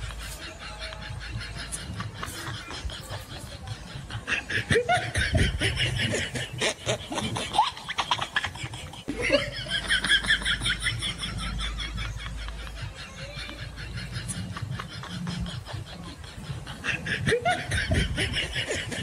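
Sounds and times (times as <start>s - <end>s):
rapid chuckling laughter: 0.0s - 19.0s.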